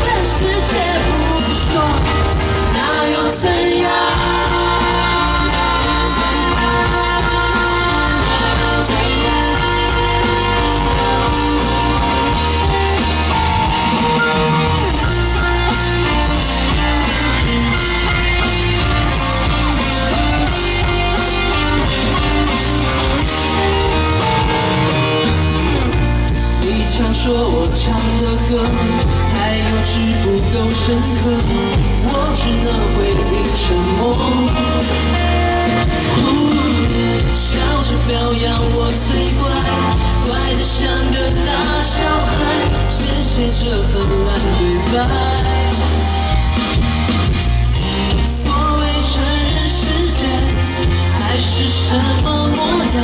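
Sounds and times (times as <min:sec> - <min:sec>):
person singing: 0:00.0 - 0:46.7, 0:47.7 - 0:53.0
live pop-rock band: 0:00.0 - 0:53.0.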